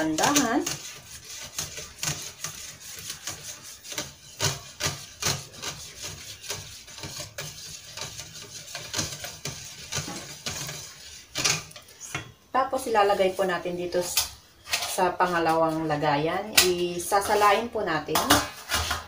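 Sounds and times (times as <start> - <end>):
whisk scraping metal bowl: 0.0 - 19.0.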